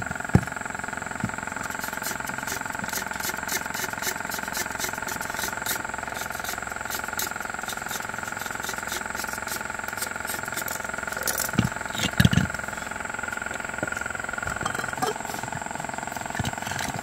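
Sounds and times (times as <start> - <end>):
motor humming and whining: 0.0 - 17.0.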